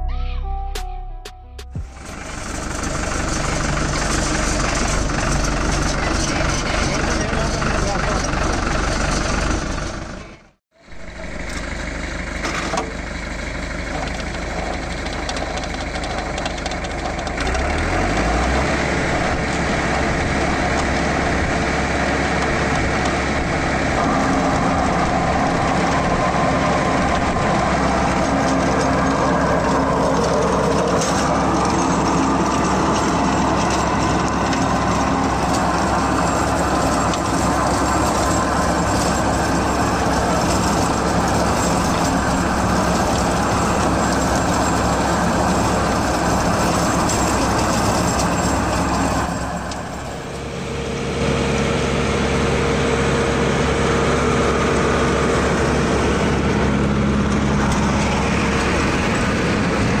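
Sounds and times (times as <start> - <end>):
tractor diesel engine under load: 1.7 - 60.0
rotary tiller churning soil: 1.9 - 60.0.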